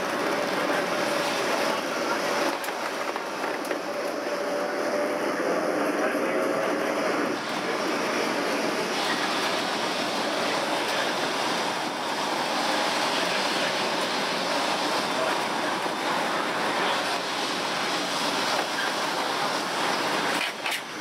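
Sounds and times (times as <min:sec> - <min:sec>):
tram rolling on rails: 0:00.0 - 0:21.0.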